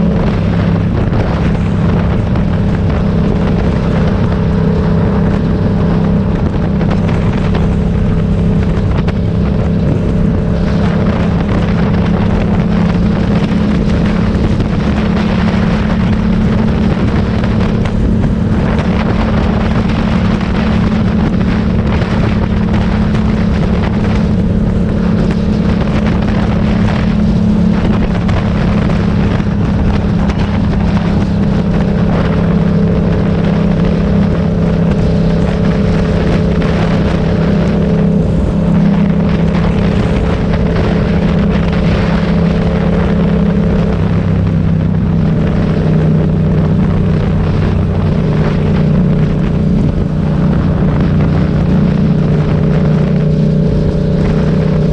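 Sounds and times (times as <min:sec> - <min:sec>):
motorcycle engine running: 0:00.0 - 0:54.9
wind on microphone: 0:00.0 - 0:54.9.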